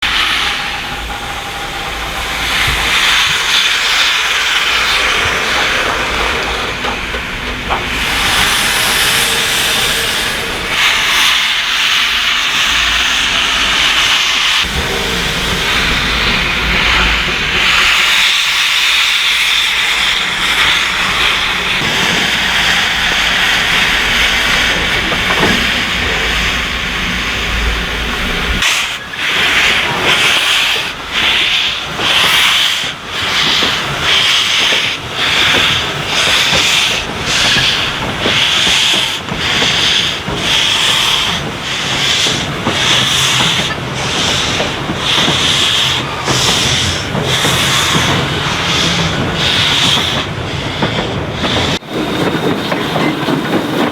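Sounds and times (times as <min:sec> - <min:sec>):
locomotive exhaust chuffs: 0:00.0 - 0:53.9
steam locomotive hissing steam: 0:00.0 - 0:53.9.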